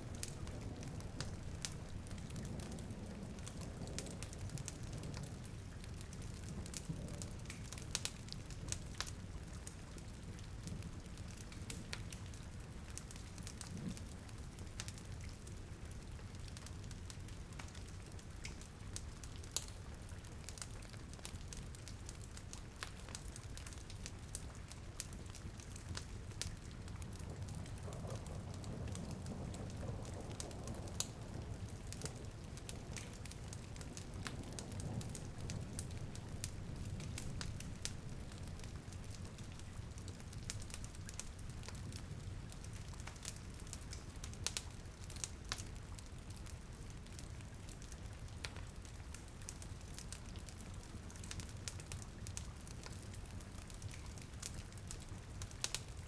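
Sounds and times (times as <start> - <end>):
burning wood crackling: 0.0 - 56.0
rain hiss: 0.0 - 56.0.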